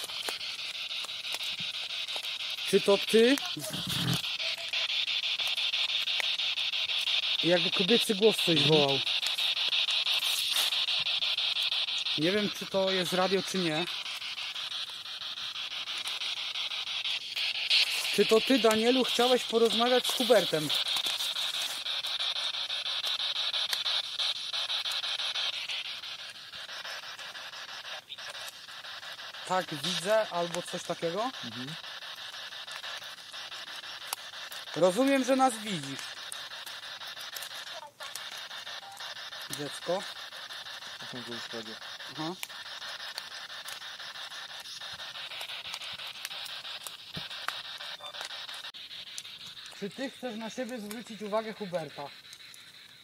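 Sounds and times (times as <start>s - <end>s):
radio static hiss with flutter: 0.0s - 53.0s.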